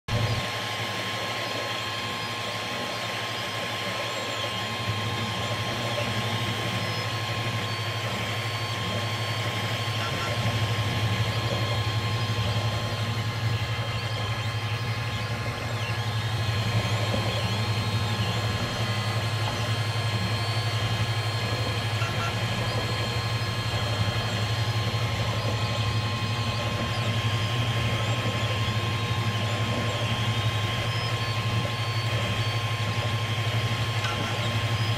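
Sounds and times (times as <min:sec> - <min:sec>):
printer fans and motors humming: 0:00.1 - 0:34.9
stepper motors whirring: 0:00.2 - 0:34.9.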